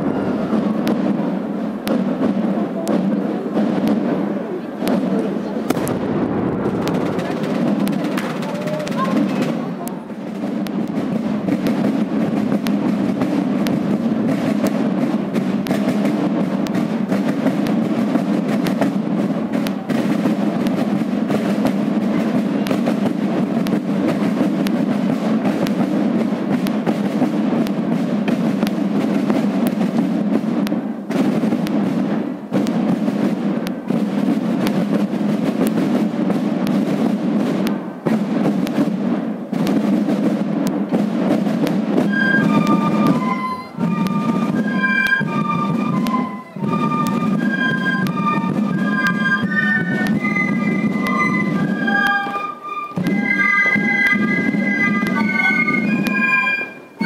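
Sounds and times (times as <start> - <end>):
marching side drums: 0.0 - 57.0.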